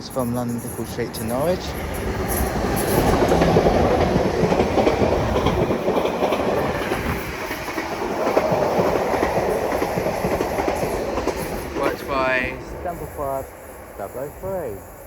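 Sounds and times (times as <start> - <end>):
train wheels clacking over rail joints: 0.1 - 14.4.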